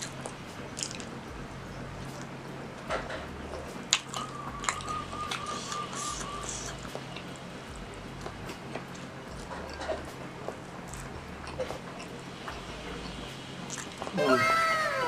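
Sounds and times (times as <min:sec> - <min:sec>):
wet chewing: 0:00.0 - 0:01.3, 0:03.0 - 0:14.2.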